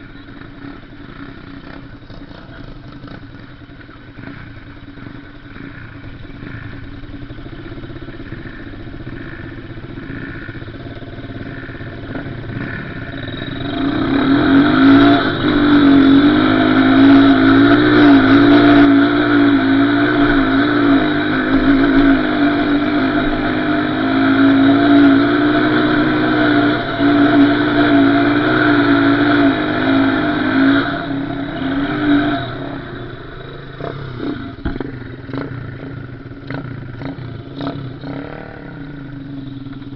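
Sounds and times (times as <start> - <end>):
small off-road engine running: 0.0 - 39.9.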